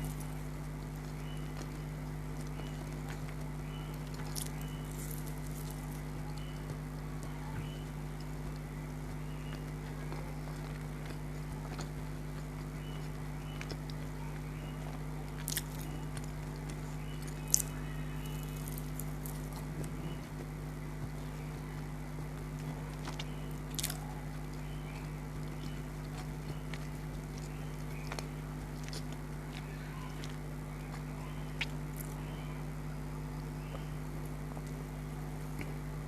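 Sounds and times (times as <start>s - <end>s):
low electrical hum: 0.0s - 36.0s
person chewing crunchy food: 0.0s - 36.0s.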